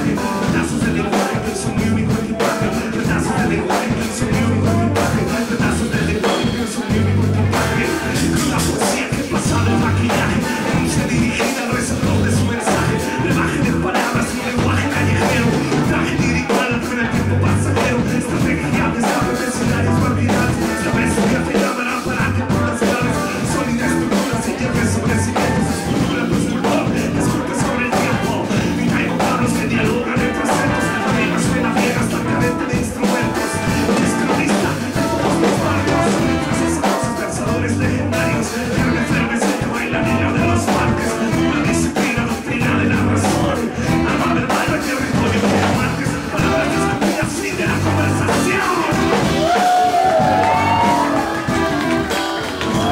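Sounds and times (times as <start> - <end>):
electric guitar: 0.0 - 52.9
live band playing: 0.0 - 52.9
person singing: 0.0 - 52.9
saxophone: 0.0 - 52.9.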